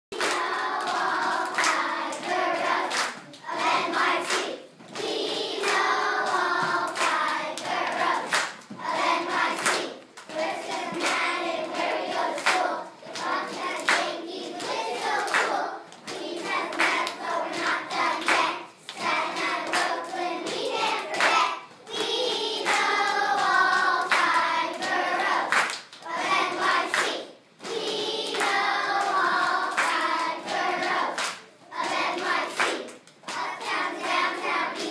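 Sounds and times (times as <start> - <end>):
hand claps: 0.1 - 3.5, 4.1 - 8.7, 9.5 - 21.4, 22.0 - 26.1, 26.8 - 33.6
children's choir singing: 0.1 - 34.9.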